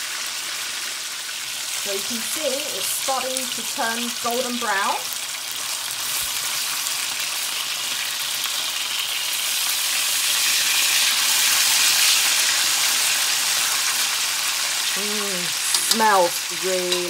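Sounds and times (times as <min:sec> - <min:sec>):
meat sizzling in a frying pan: 0:00.0 - 0:17.0.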